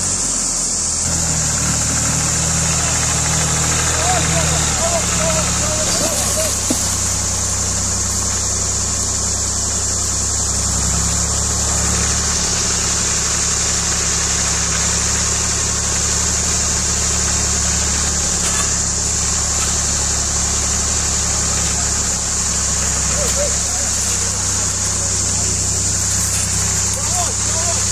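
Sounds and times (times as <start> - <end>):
steady high hiss: 0.0 - 27.9
tractor diesel engine running: 0.0 - 27.9.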